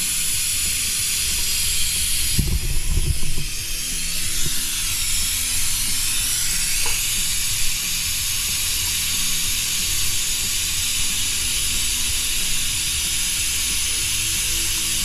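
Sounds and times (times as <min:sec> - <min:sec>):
compressed air hissing: 0:00.0 - 0:15.0.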